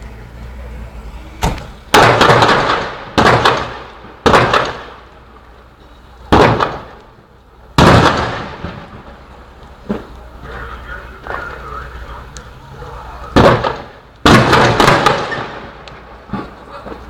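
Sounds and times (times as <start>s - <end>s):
explosions with rolling echo: 1.9s - 5.5s, 6.3s - 17.0s.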